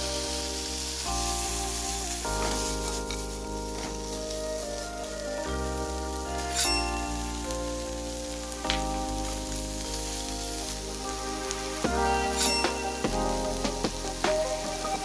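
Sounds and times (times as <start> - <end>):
background music of sustained chords: 0.0 - 15.0
food sizzling in a frying pan: 0.0 - 15.0.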